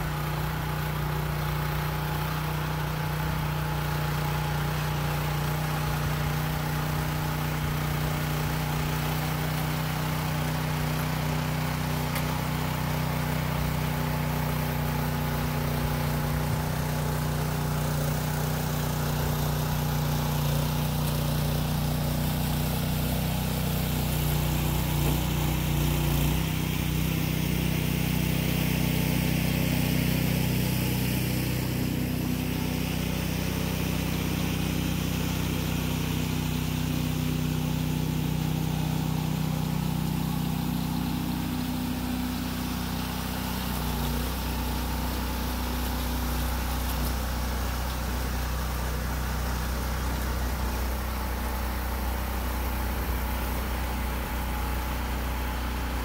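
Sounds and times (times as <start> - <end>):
garden tiller engine running: 0.0 - 56.0.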